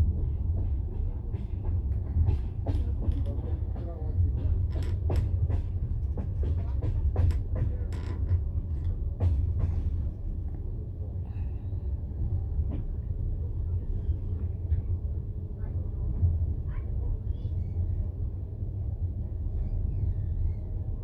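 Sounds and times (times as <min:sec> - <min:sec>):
train carriage rumbling on track: 0:00.0 - 0:21.0.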